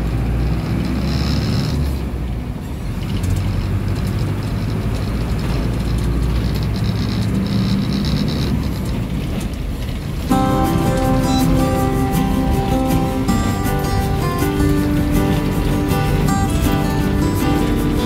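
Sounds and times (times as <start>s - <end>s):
bus body rattling: 0.0s - 10.4s, 11.0s - 18.0s
bus engine drone: 0.0s - 18.0s
road noise: 0.0s - 18.0s.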